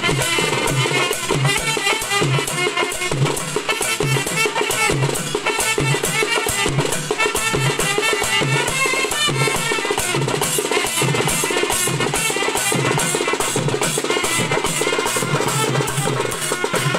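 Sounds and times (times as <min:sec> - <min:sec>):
fast hand-drum beats: 0:00.0 - 0:16.9
trumpets playing melody: 0:00.0 - 0:16.9.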